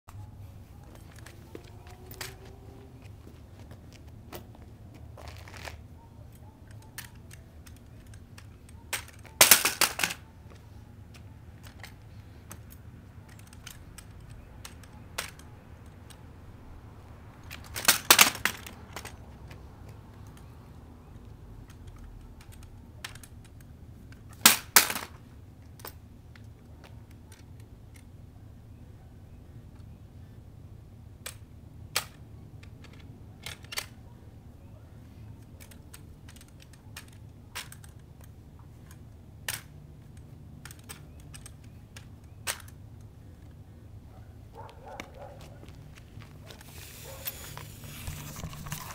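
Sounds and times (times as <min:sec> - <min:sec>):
rifle clattering on asphalt: 0:00.2 - 0:28.3, 0:31.1 - 0:48.9.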